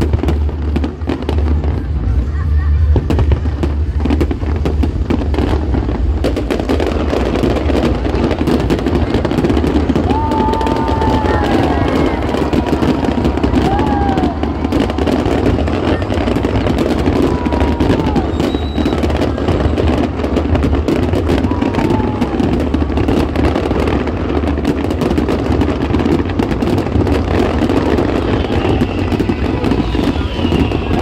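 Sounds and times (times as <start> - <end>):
fireworks bursts rumbling: 0.0 - 31.0
fireworks crackling: 0.0 - 31.0
fireworks falling whistles: 0.0 - 31.0.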